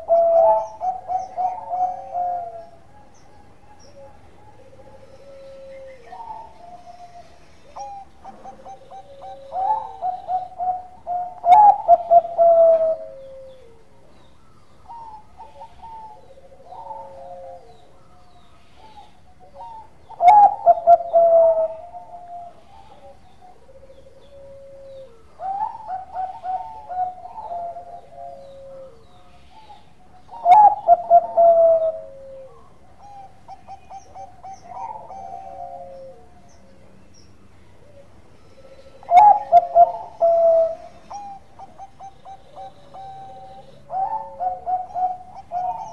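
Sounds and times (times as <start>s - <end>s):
fainter lower coo: 0.0s - 13.8s, 18.7s - 36.4s, 37.9s - 45.9s
dove cooing: 0.0s - 36.9s, 37.7s - 45.9s.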